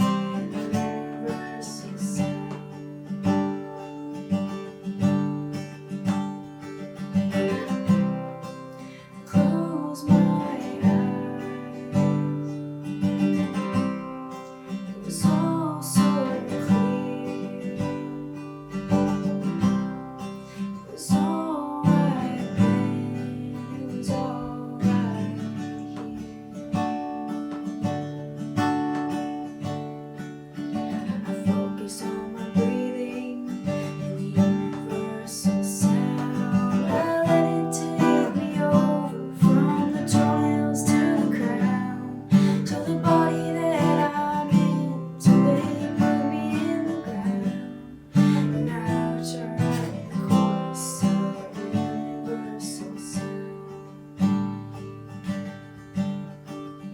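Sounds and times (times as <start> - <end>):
acoustic guitar strumming: 0.0 - 56.9.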